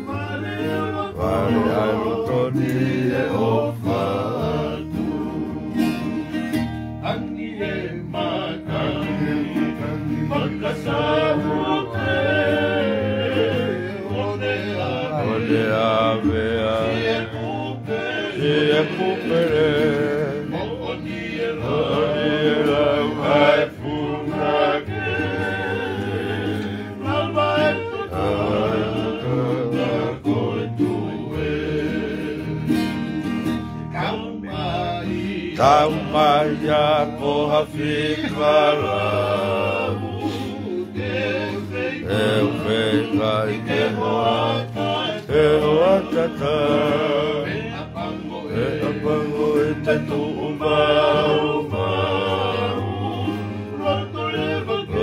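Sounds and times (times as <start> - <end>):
men singing together: 0.0 - 6.4, 7.0 - 55.0
strummed acoustic guitars: 0.0 - 55.0.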